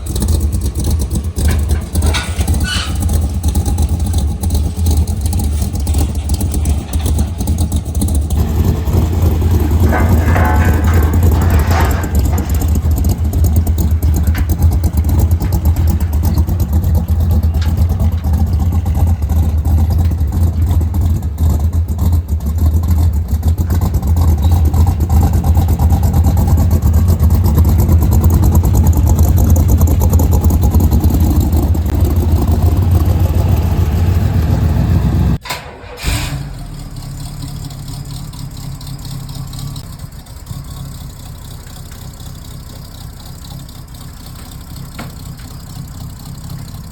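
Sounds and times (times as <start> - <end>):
car engine idling: 0.0 - 46.9
car engine rumbling: 0.0 - 46.9.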